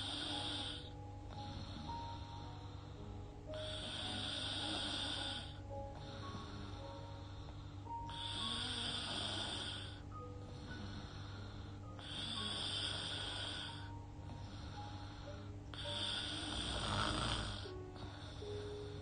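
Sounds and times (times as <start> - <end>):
woman snoring: 0.0 - 2.9, 3.5 - 10.0, 10.6 - 19.0
faint background music: 0.0 - 19.0.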